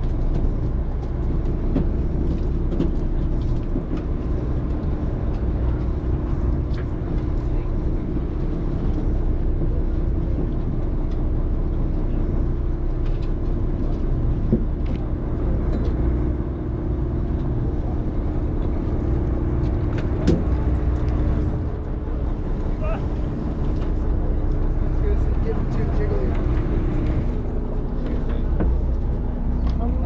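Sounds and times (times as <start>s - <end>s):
boat engine droning: 0.0s - 30.0s.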